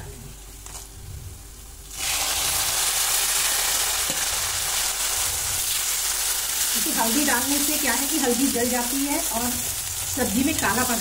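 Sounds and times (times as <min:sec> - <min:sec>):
tomatoes sizzling in hot oil: 0:01.8 - 0:11.0.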